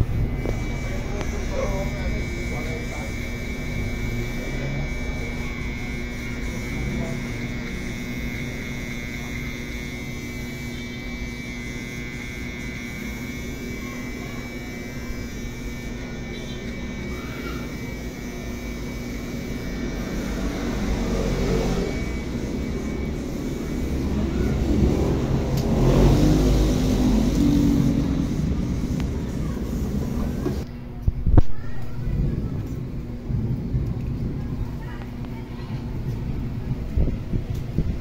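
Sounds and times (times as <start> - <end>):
loud rumble: 0.0 - 13.7, 18.6 - 30.6, 31.2 - 38.0
electric hair clippers buzzing: 0.0 - 30.7.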